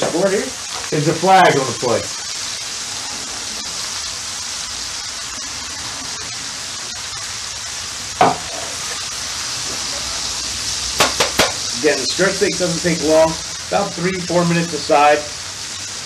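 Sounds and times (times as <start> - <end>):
meat and vegetables sizzling: 0.0 - 16.0.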